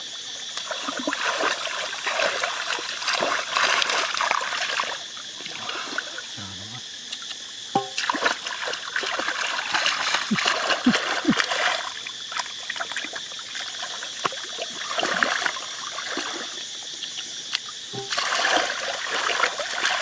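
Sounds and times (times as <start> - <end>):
wet splashes and squelches: 0.0 - 20.0
hands sloshing through mud: 0.4 - 6.3, 7.2 - 20.0.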